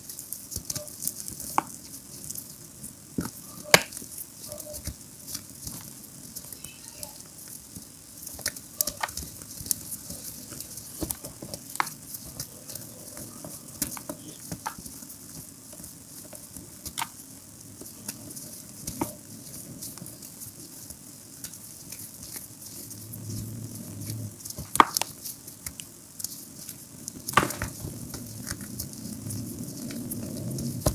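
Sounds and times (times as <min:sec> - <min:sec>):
hands crumbling chalk: 0:00.0 - 0:02.6, 0:03.2 - 0:30.9.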